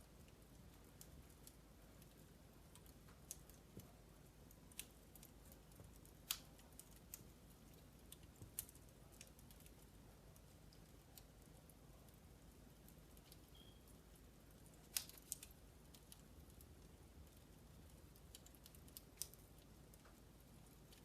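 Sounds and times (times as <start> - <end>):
faint low hum: 0.0 - 21.0
logs crackling in fireplace: 0.0 - 21.0.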